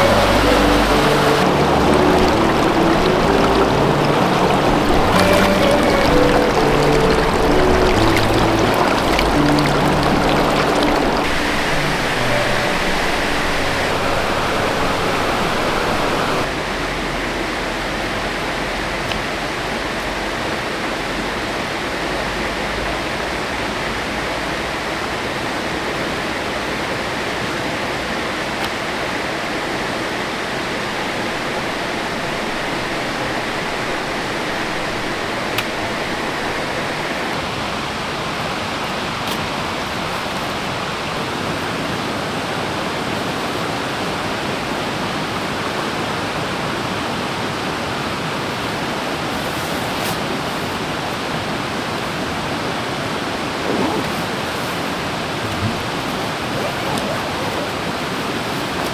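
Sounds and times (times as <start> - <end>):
stream water running: 0.0 - 16.8, 18.1 - 58.9.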